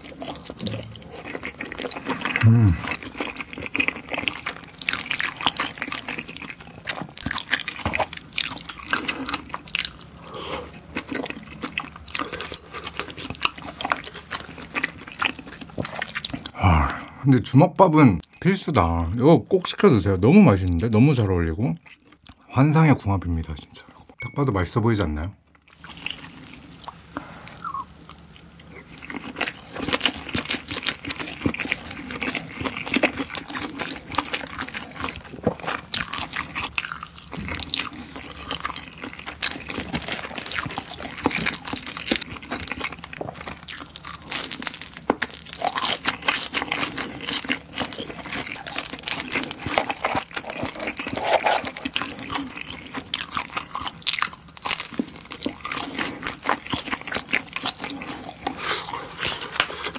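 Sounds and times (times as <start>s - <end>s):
wet chewing mouth sounds: 0.0s - 17.0s, 25.8s - 59.9s.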